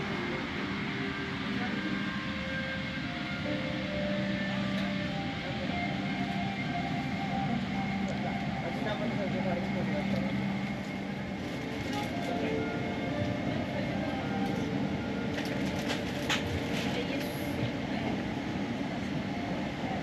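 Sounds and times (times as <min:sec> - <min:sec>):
faint voices: 0:00.1 - 0:20.0.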